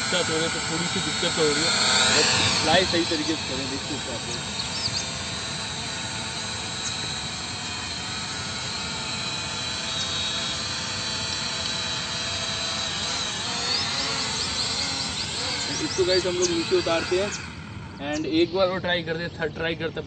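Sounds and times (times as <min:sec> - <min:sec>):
quadcopter propellers buzzing: 0:00.0 - 0:20.0.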